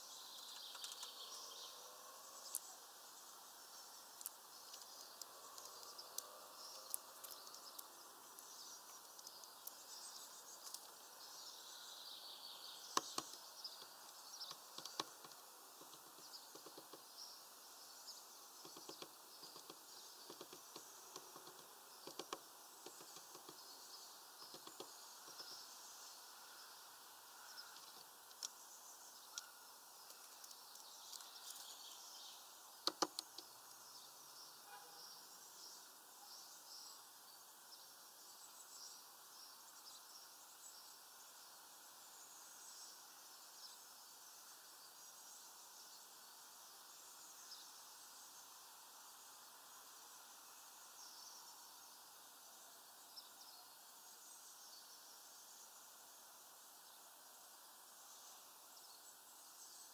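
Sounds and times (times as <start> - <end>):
outdoor hiss: 0.0 - 59.9
small birds chirping: 0.0 - 59.9.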